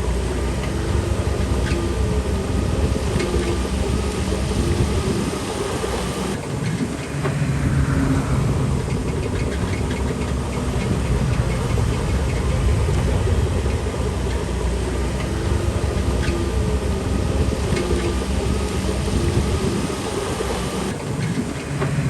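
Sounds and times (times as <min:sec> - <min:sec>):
bulldozer diesel engine: 0:00.0 - 0:22.0.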